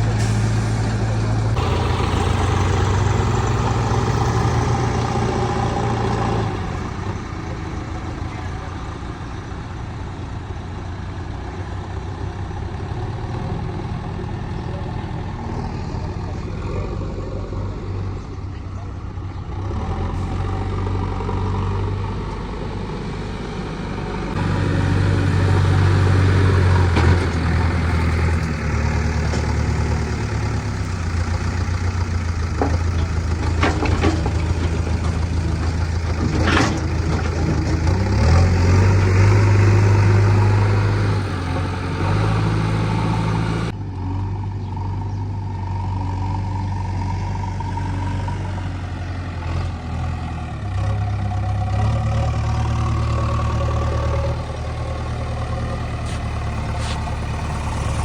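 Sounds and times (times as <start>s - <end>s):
diesel engine working: 0.0s - 58.0s.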